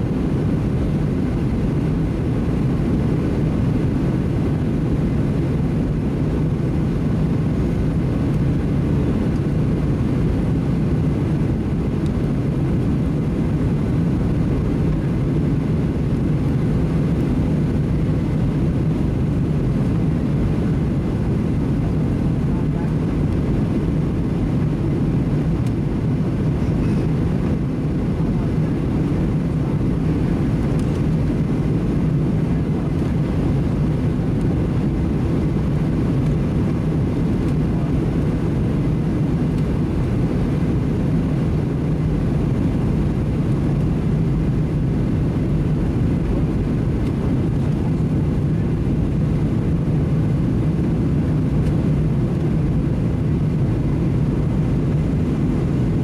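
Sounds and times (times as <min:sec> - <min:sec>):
airplane cabin drone: 0:00.0 - 0:56.0.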